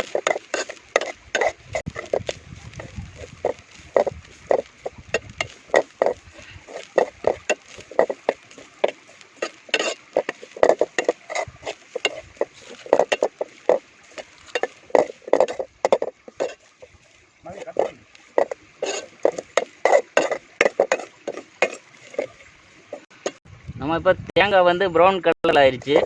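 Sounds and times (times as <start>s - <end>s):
ladle scraping coconut in pan: 0.0s - 23.4s, 25.8s - 26.0s.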